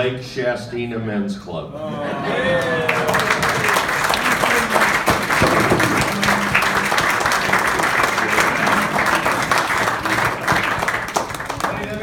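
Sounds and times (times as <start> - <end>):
voices: 1.6 - 12.0
people applauding: 2.2 - 12.0.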